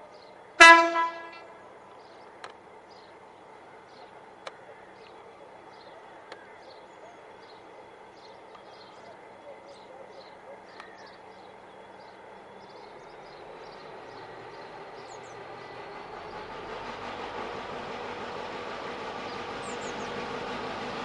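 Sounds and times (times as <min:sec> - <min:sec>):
diesel locomotive engine running: 0:00.2 - 0:09.4, 0:11.0 - 0:21.0
birds chirping: 0:00.6 - 0:16.6, 0:19.2 - 0:20.3.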